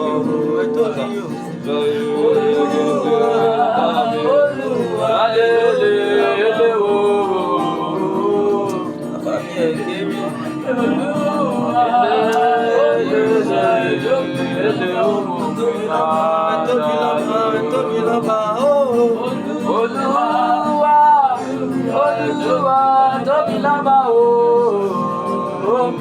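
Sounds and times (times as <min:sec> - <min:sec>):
guitar and keyboard: 0:00.0 - 0:26.0
person singing: 0:00.0 - 0:26.0.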